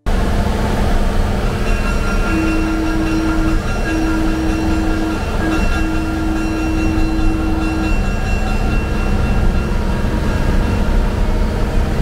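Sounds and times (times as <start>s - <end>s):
rail car motor and wheels rumbling: 0.1s - 12.0s
steady whine: 0.1s - 12.0s.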